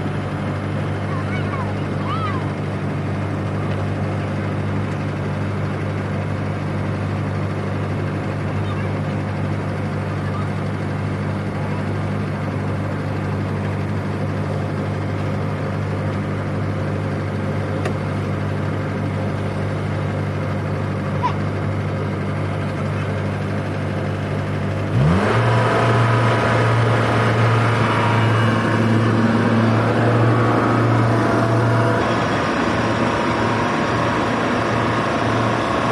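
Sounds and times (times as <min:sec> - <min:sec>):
harvester engine running: 0:00.0 - 0:35.9.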